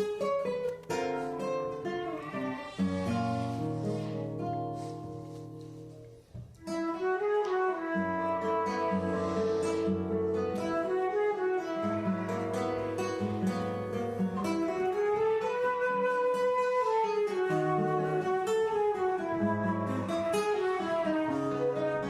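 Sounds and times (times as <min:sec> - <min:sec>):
slow guitar music: 0:00.0 - 0:22.0.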